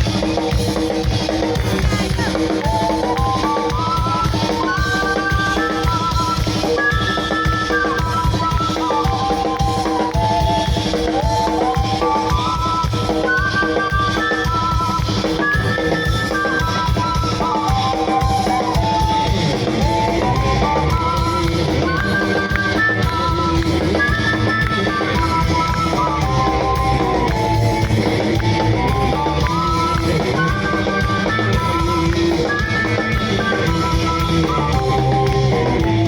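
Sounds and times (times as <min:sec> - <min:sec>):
drum kit steady beat: 0:00.0 - 0:36.0
lead melody: 0:00.0 - 0:36.0
rock band playing instrumental: 0:00.0 - 0:36.0.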